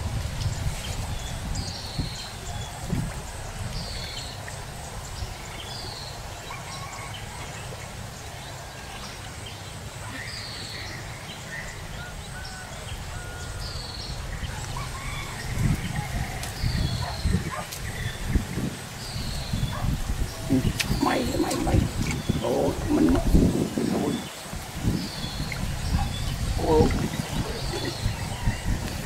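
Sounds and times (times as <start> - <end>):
birds chirping softly: 0.3 - 29.0.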